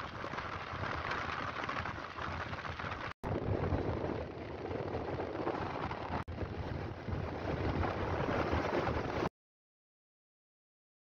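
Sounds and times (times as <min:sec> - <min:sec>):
wind rushing over microphone: 0:00.0 - 0:09.3.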